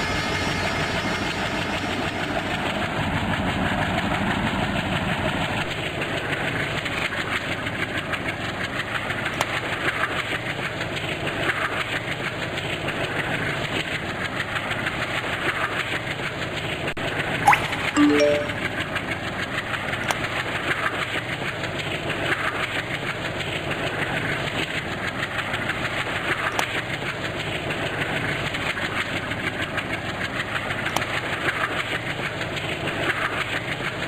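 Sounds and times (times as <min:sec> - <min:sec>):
diesel train engine: 0:00.0 - 0:16.8, 0:18.9 - 0:34.0.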